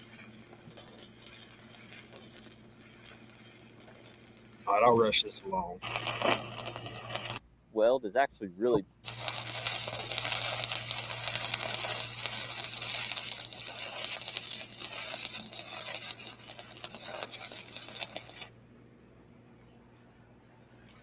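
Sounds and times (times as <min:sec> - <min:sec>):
welding arc crackling: 0:00.0 - 0:07.4, 0:08.7 - 0:18.6
steady low hum: 0:00.3 - 0:21.0.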